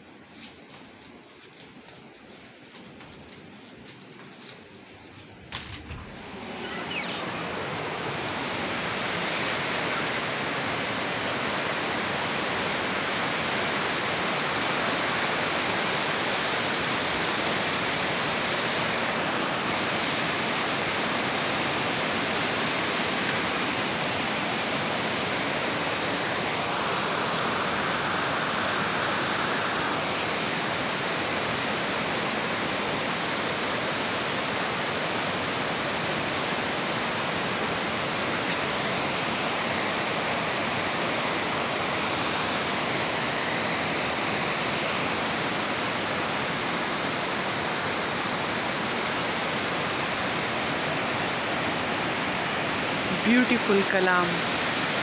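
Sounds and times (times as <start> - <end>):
river rushing over rocks: 7.3 - 55.0.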